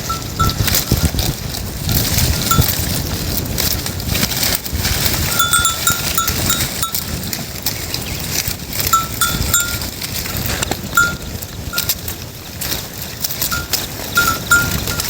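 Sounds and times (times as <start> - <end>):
goat bells clinking: 0.0 - 15.0
steady rustling noise: 0.0 - 15.0.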